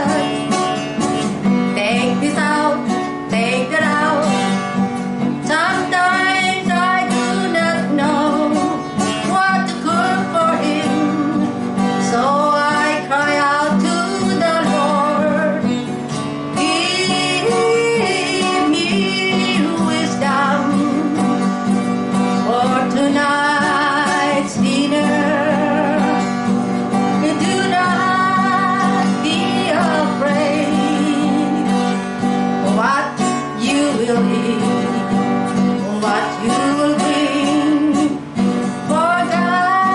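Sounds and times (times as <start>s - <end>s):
strummed acoustic guitar: 0.0s - 39.9s
woman singing: 0.0s - 39.9s.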